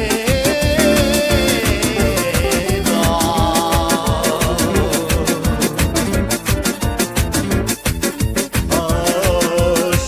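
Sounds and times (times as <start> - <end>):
pop music with fast beat: 0.0 - 10.0.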